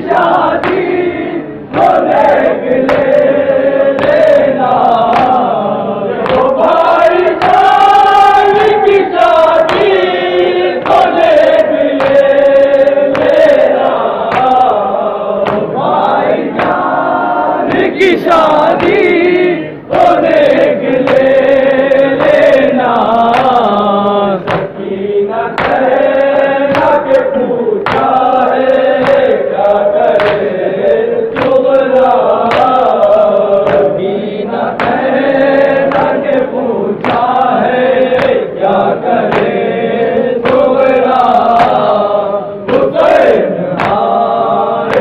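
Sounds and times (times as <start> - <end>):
men chanting a lament: 0.0 - 45.0.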